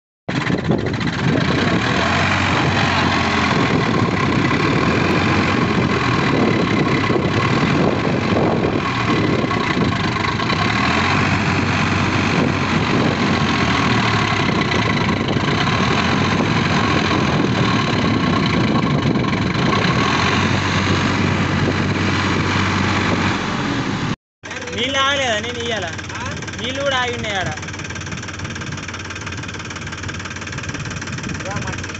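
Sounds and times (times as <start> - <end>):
tractor diesel engine running: 0.3 - 31.9.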